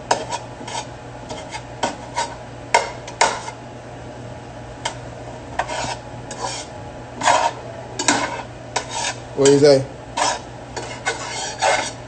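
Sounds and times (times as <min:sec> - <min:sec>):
steady low hum: 0:00.0 - 0:12.0
utensil scraping a pan: 0:00.1 - 0:03.6, 0:05.6 - 0:12.0.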